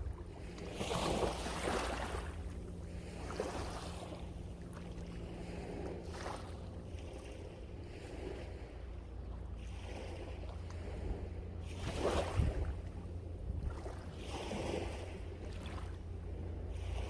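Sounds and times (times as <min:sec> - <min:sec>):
sea waves breaking on shore: 0:00.0 - 0:17.0
wind rumble on microphone: 0:00.0 - 0:17.0.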